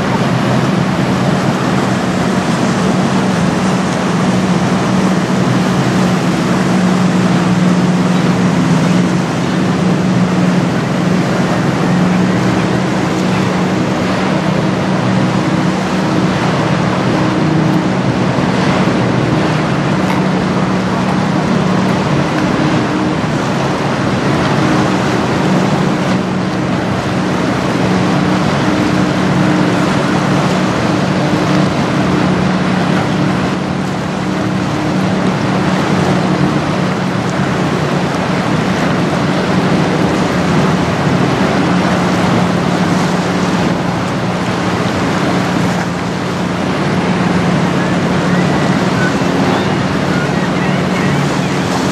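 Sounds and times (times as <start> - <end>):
choppy water: 0.0 - 51.9
diesel engine drone: 0.0 - 51.9.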